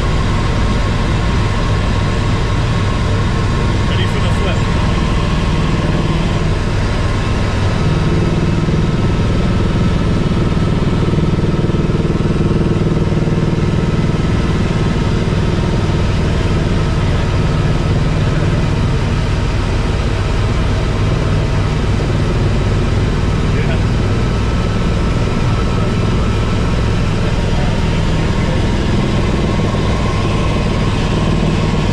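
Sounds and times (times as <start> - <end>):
helicopter engine and rotors: 0.0 - 31.9.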